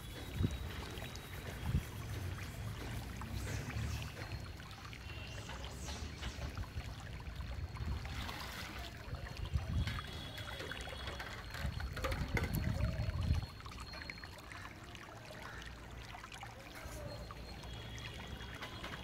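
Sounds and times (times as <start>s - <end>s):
water pouring from bowl: 0.0s - 5.9s, 6.5s - 19.0s
water splashing while washing dishes: 0.0s - 19.0s.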